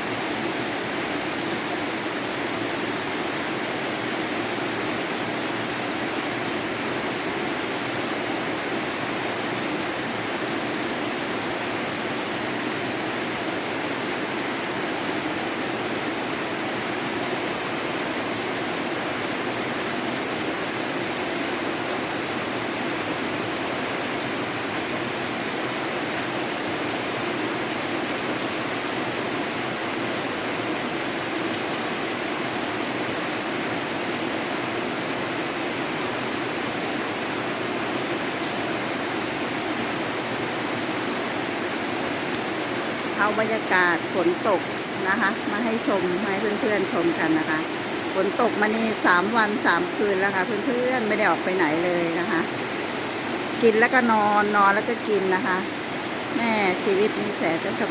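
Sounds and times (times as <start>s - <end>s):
rain falling steadily: 0.0s - 57.9s.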